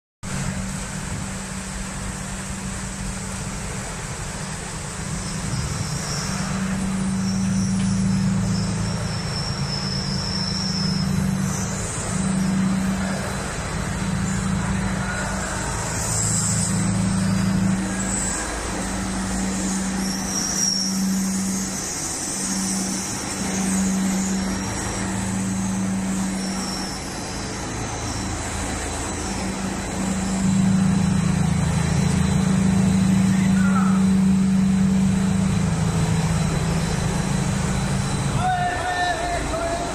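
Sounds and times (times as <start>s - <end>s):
faint high whine: 0.3s - 39.9s
paper machinery humming: 0.3s - 39.9s.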